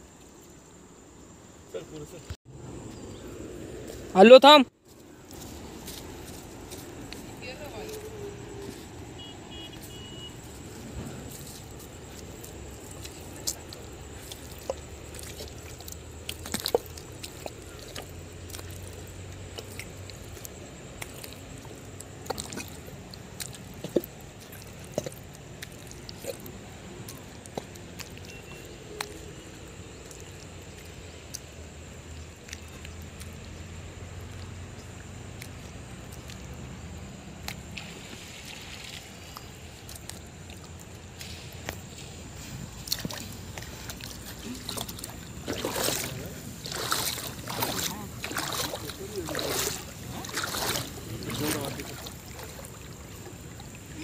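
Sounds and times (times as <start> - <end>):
footsteps squelching in mud: 2.8 - 54.0.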